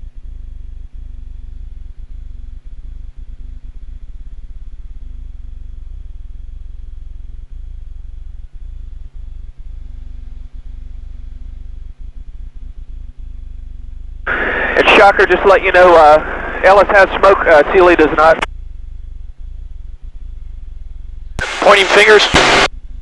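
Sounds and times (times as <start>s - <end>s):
light aircraft engine drone: 0.0s - 23.0s.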